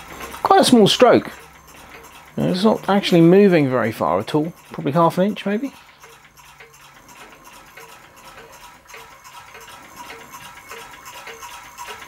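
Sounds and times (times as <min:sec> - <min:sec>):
model engine ticking: 0:00.0 - 0:12.0.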